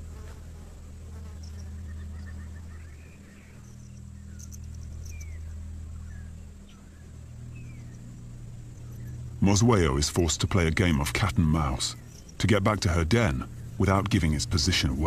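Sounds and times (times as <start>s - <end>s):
insects buzzing and clicking: 0.0s - 15.0s
low steady drone: 0.0s - 15.0s.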